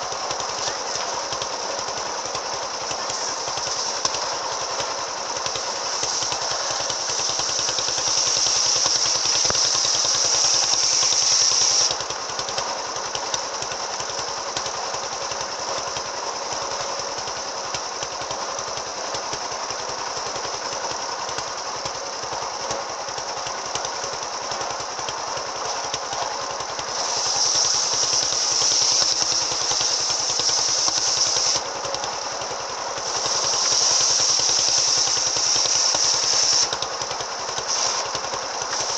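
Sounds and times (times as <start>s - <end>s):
circular saw running: 0.0s - 38.9s.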